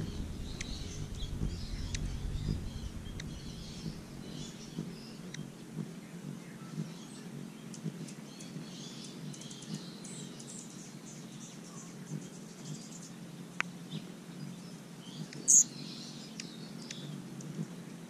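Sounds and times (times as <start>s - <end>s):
hummingbirds chirping: 0.0s - 18.0s
low steady hum: 0.0s - 18.0s.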